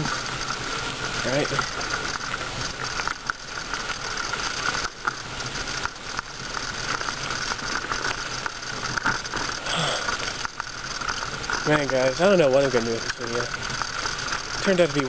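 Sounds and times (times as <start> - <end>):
bicycle freewheel ticking: 0.0 - 15.0.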